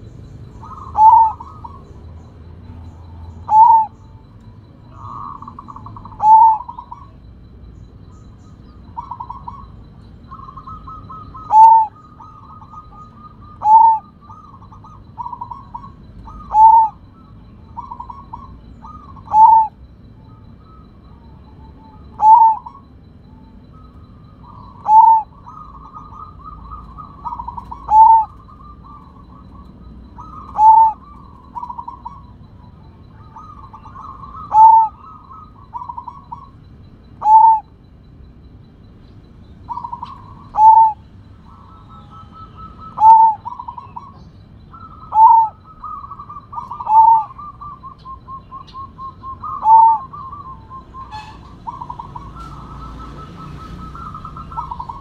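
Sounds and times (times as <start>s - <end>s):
dove cooing: 0.0s - 55.0s
rolling trilled coos: 0.0s - 55.0s.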